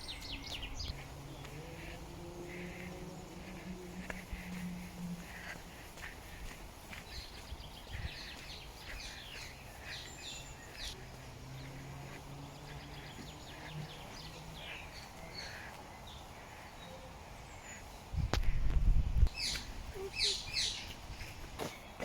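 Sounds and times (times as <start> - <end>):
songbirds chirping and singing: 0.0 - 18.7, 19.3 - 22.0
outdoor background noise: 0.0 - 22.0.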